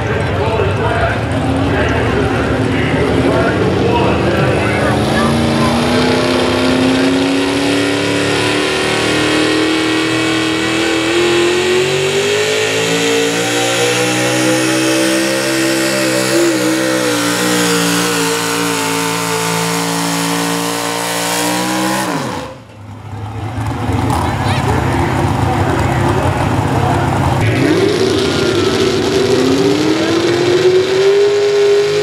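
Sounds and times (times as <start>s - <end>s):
truck engine at high revs: 0.0s - 32.0s.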